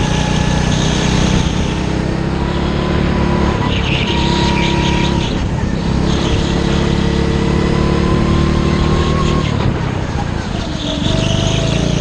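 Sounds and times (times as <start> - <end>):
go-kart engine accelerating: 0.0 - 12.0.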